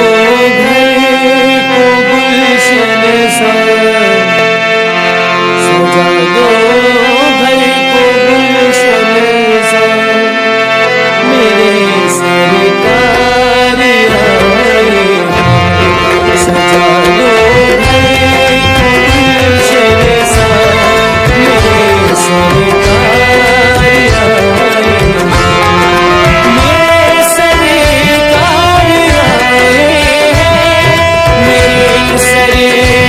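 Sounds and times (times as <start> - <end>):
harmonium playing a melody: 0.0 - 33.0.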